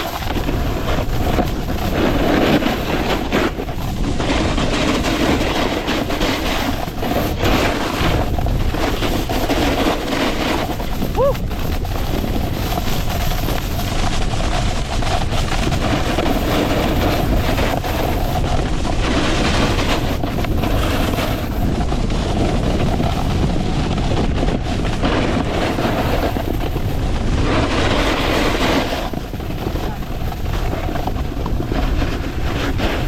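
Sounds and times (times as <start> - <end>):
snowboard edge scraping snow: 0.0 - 33.0
wind on microphone: 0.0 - 33.0.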